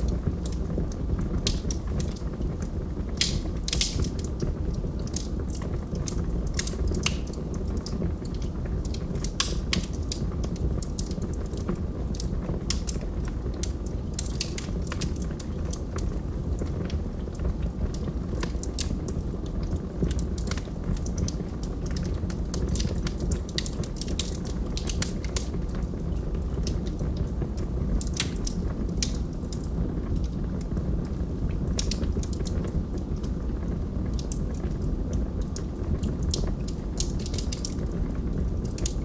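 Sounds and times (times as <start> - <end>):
fire crackling and popping: 0.0 - 39.0
fire rumbling: 0.0 - 39.0.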